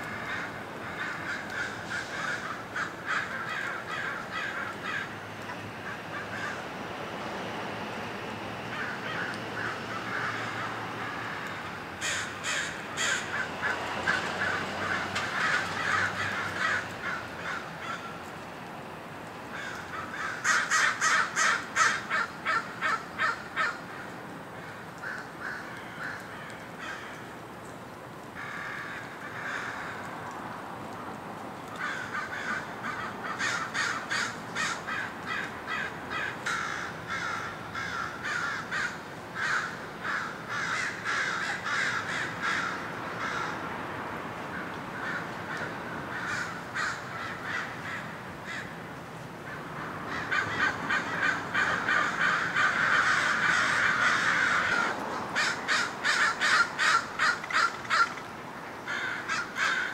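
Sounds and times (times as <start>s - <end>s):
crows cawing: 0.0s - 5.2s, 5.8s - 6.7s, 8.6s - 18.3s, 19.5s - 27.4s, 28.3s - 30.4s, 31.7s - 43.7s, 44.5s - 59.9s.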